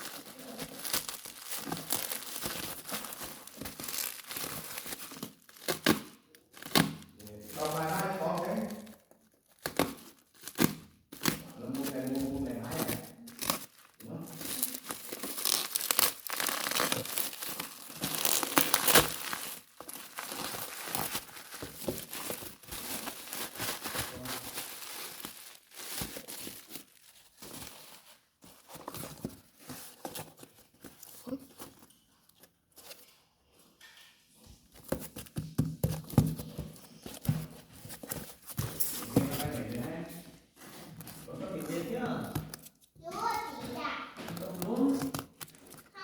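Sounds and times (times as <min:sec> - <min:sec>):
packaging crinkling and ripping: 0:00.0 - 0:31.9, 0:34.8 - 0:46.0.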